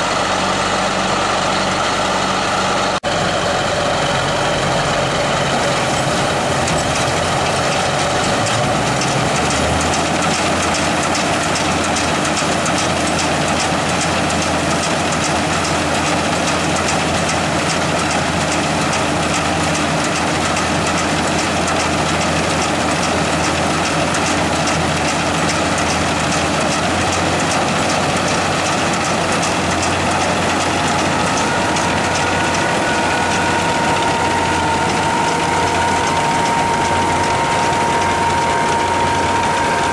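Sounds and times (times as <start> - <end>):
combine harvester engine running: 0.0 - 39.9
clatter of threshing mechanism: 5.6 - 39.9.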